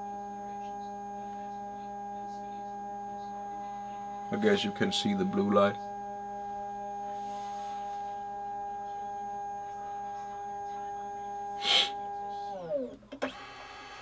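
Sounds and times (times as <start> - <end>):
scanner motor whining: 0.0 - 14.0.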